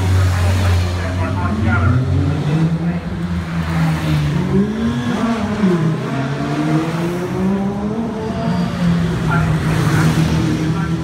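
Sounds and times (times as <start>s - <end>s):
sports car engines accelerating: 0.0s - 11.0s.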